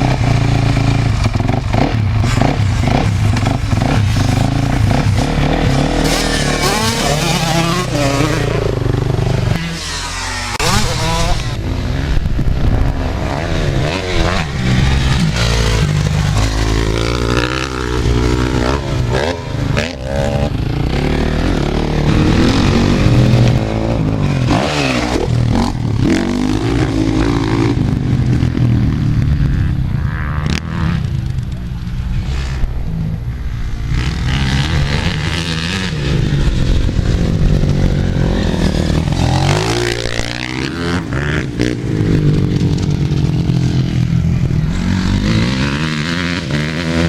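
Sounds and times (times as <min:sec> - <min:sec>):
dirt bike engines revving: 0:00.0 - 0:47.0.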